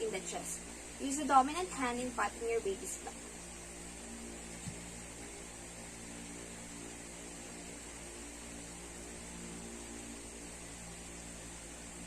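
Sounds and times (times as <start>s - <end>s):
background hiss: 0.0s - 12.0s
electrical hum: 0.0s - 12.0s.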